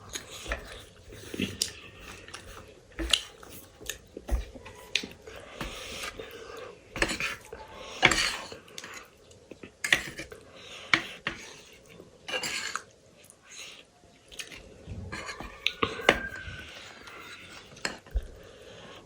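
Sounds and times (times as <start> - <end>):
cutlery clinking against a dish: 0.0 - 9.1, 9.7 - 12.9, 15.1 - 18.3
chewing: 0.0 - 19.0.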